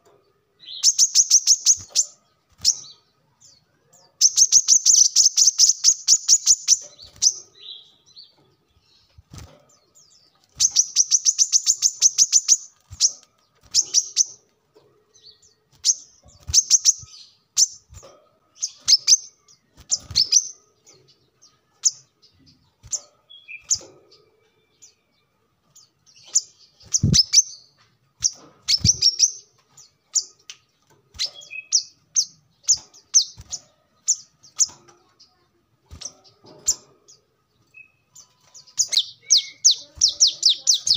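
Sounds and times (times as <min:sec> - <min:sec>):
bird chirping trills: 0:00.0 - 0:40.9.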